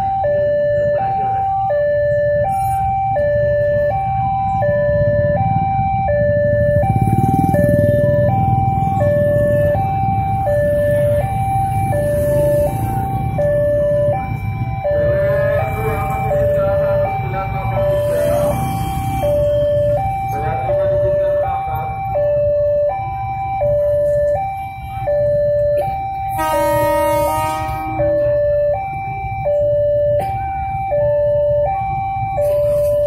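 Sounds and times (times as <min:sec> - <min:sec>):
level crossing two-tone alarm: 0:00.0 - 0:33.0.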